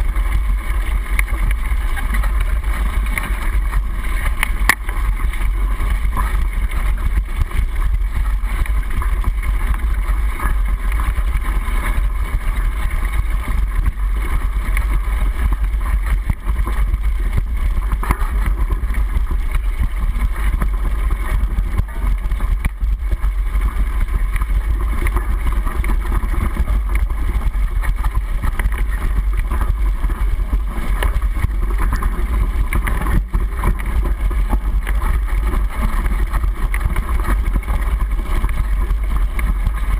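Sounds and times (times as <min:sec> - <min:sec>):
bike rattles and knocks: 0:00.0 - 0:39.9
bike rolling over dirt trail: 0:00.0 - 0:39.9.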